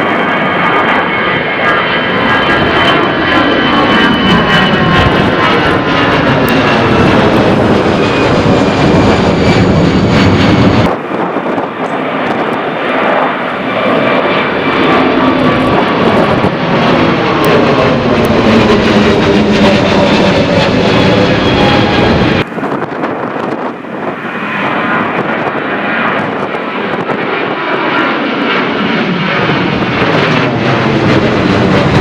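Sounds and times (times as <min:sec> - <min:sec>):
jet airliners taking off: 0:00.0 - 0:32.0.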